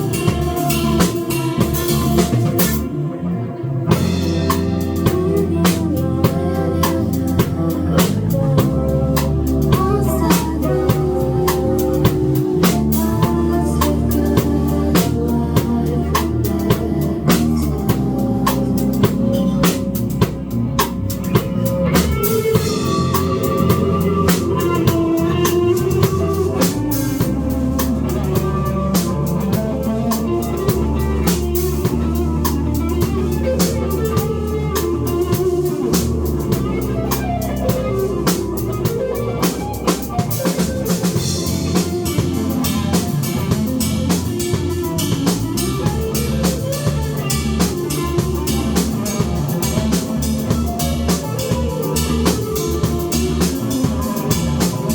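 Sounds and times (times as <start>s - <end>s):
drum kit beat: 0.0s - 54.9s
live rock band playing: 0.0s - 54.9s.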